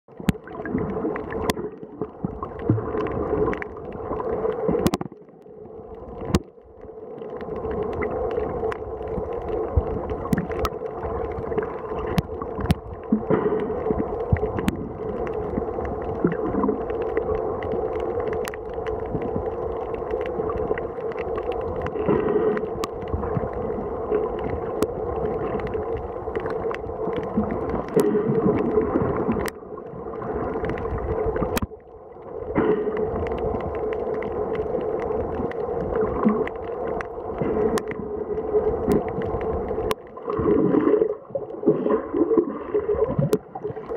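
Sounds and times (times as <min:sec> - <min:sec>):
underwater low rumble: 0:00.0 - 0:43.9
sharp underwater clicks: 0:00.1 - 0:43.9.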